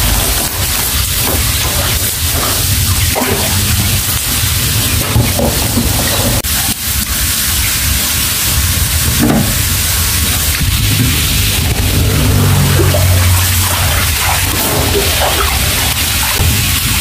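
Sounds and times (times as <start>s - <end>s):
pond machinery hum: 0.0s - 17.0s.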